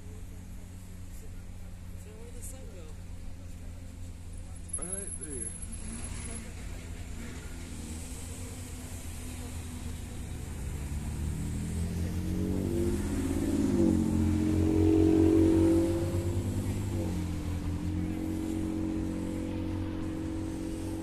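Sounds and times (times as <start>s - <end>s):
vehicle engine passing by: 0.0s - 21.0s.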